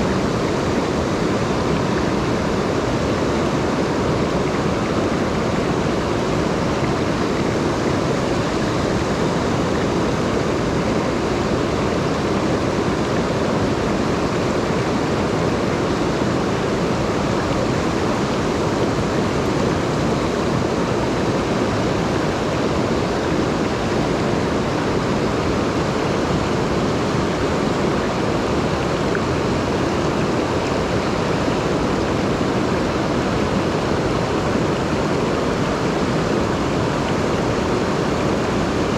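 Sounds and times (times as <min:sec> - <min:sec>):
stream rushing water: 0:00.0 - 0:38.9.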